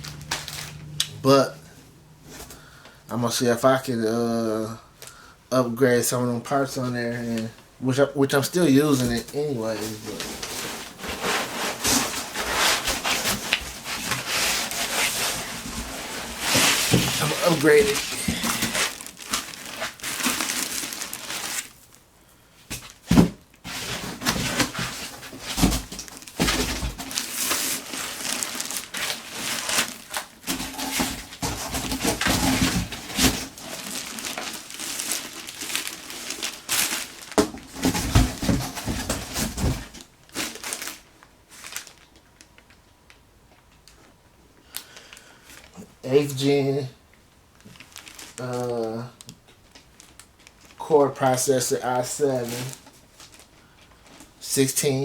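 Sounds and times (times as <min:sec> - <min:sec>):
plastic wrap crinkling: 0:00.0 - 0:01.7, 0:08.3 - 0:22.1, 0:22.7 - 0:46.4, 0:47.5 - 0:54.7.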